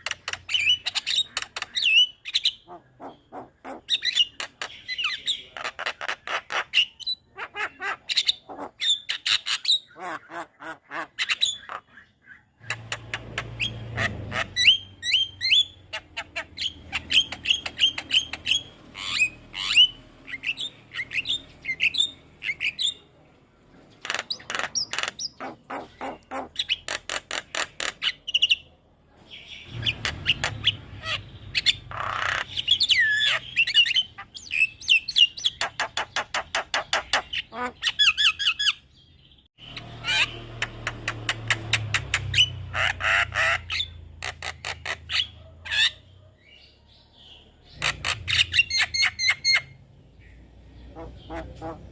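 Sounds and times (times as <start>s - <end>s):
bird chattering and whistling: 0.0s - 23.1s, 23.9s - 38.9s, 39.6s - 51.9s.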